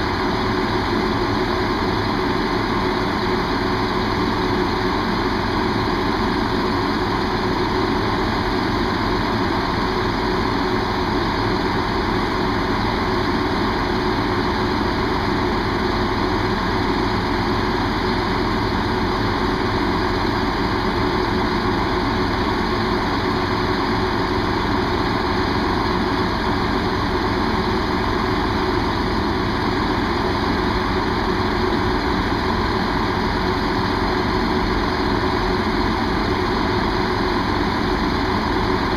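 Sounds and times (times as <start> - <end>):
diesel train engine idling: 0.0 - 38.9.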